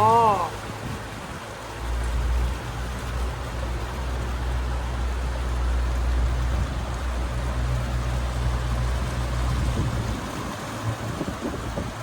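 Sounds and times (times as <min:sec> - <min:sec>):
boat motor humming: 0:00.0 - 0:12.0
hiss of water and air: 0:00.0 - 0:12.0.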